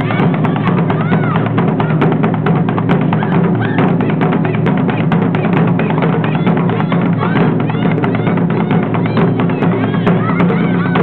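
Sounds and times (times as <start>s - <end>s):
taiko drums struck hard: 0.0s - 11.0s.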